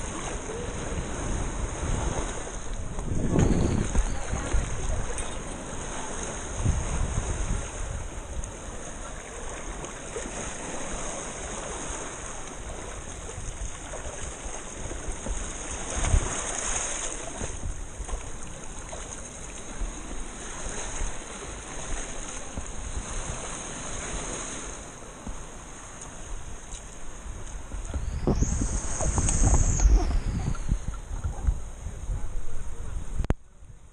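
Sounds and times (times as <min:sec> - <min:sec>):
sea water lapping among rocks: 0:00.0 - 0:31.6
wind: 0:00.0 - 0:33.9.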